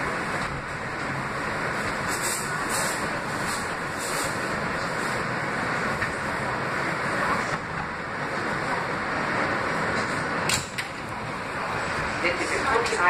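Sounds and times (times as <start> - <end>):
subway train rolling to a stop: 0.0 - 13.0.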